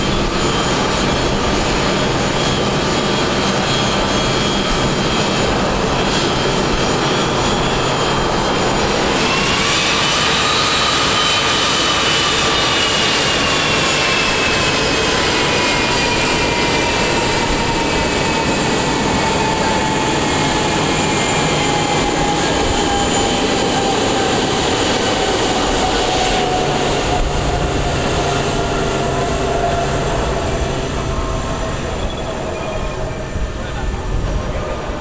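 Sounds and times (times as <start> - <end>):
jet engines whining: 0.0 - 35.0.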